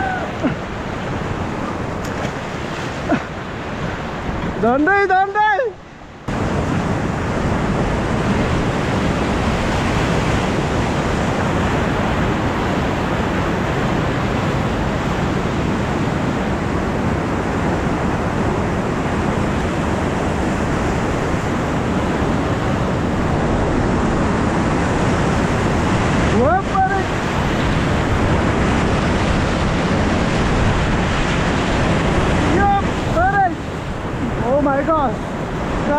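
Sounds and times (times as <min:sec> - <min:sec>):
whitewater rapids roaring: 0:00.0 - 0:35.9.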